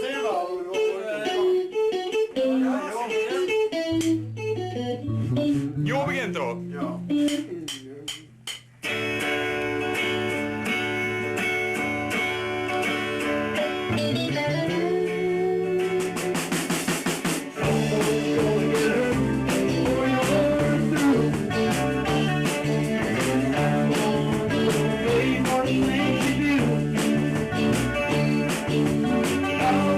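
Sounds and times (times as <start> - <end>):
electric guitar chords: 0.0 - 29.9
bass guitar: 1.2 - 29.9
drum kit: 3.9 - 14.2, 14.8 - 29.9.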